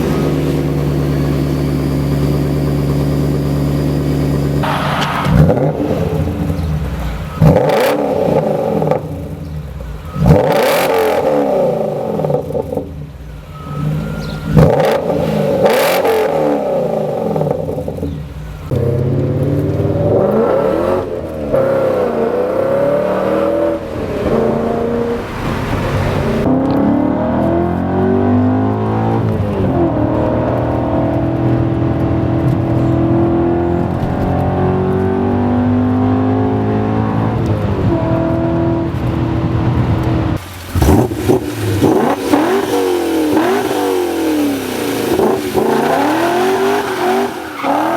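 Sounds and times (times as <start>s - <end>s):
car exhaust revving: 0.0s - 47.9s.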